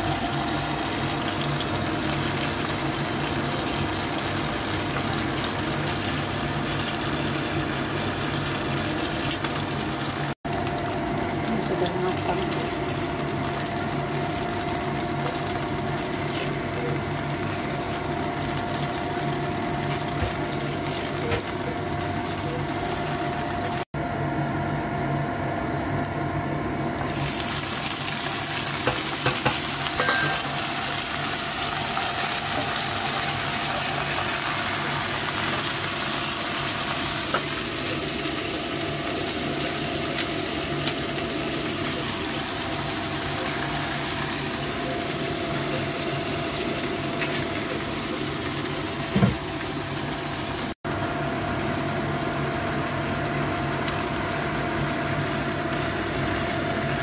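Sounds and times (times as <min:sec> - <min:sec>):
chicken wings sizzling in oil: 0:00.0 - 0:57.0.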